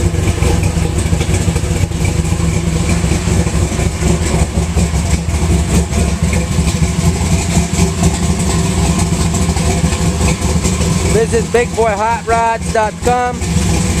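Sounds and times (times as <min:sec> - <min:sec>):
supercharged engine idling: 0:00.0 - 0:14.0.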